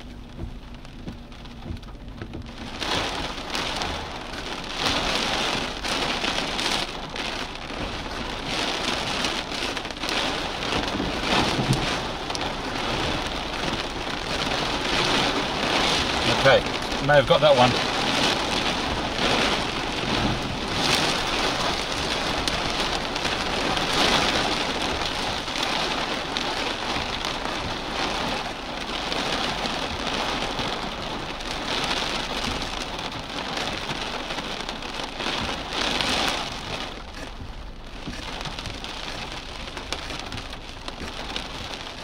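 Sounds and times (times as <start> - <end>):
heavy rain downpour: 0.0 - 42.0.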